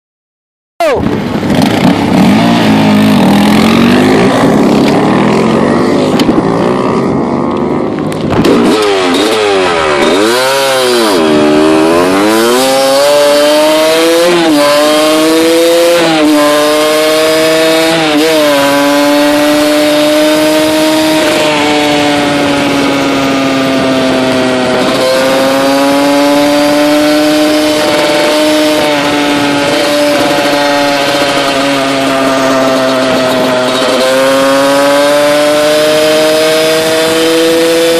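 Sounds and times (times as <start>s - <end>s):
dirt bike engine shifting gears: 1.0s - 37.9s.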